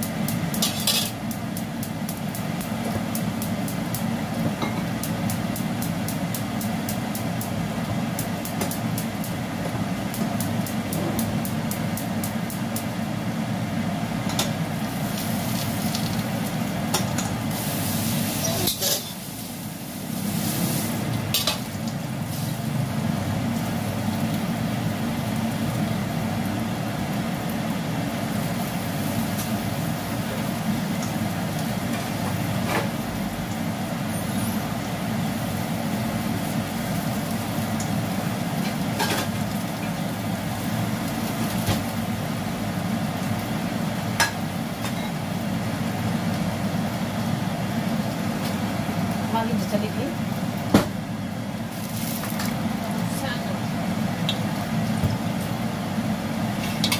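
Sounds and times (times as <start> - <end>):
faint frying sizzle: 0.0 - 56.9.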